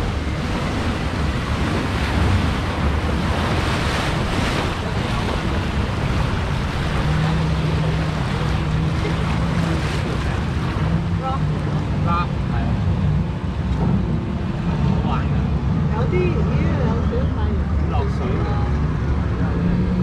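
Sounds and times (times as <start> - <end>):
white water rapids splashing: 0.0 - 18.8
wind buffeting microphone: 0.0 - 20.0.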